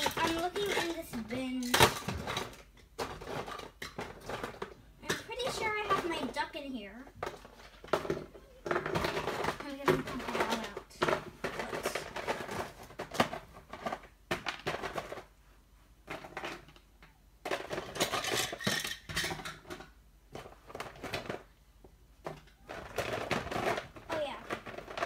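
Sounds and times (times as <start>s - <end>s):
small plastic figures clattering: 0.0s - 15.3s, 16.0s - 21.5s, 22.2s - 25.0s.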